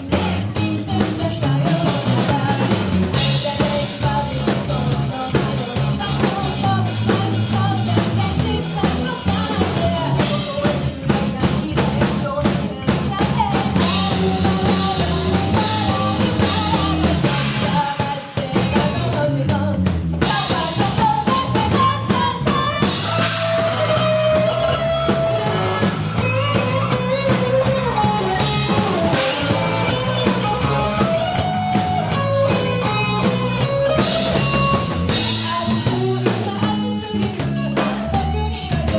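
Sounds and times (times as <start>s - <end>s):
band music: 0.0s - 38.9s
drum kit: 0.0s - 38.9s.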